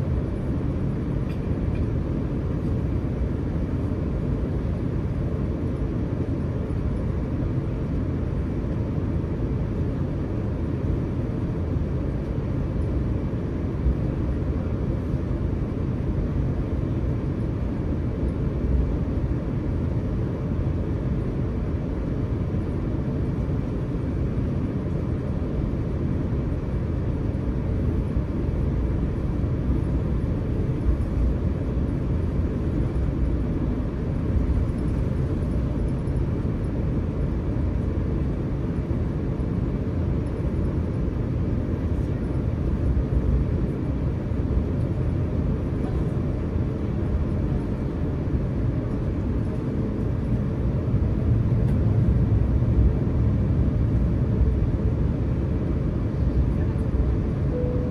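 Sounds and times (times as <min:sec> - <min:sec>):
aircraft cabin low rumble: 0:00.0 - 0:57.9.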